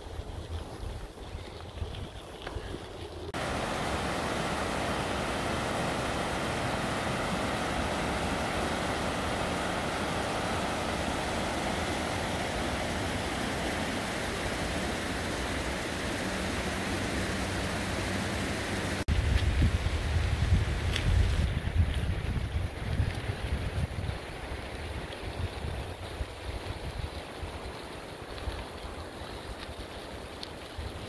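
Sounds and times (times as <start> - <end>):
bicycle tyres rolling on gravel: 0.0 - 31.0.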